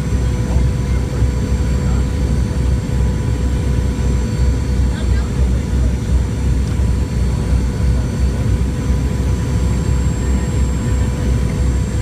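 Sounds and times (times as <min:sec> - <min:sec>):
jet cabin rumble: 0:00.0 - 0:12.0.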